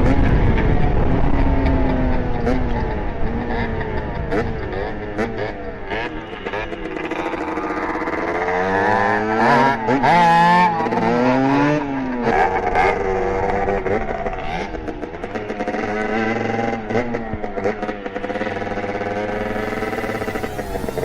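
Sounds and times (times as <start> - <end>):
two-stroke motorcycle engines revving: 0.0 - 21.0.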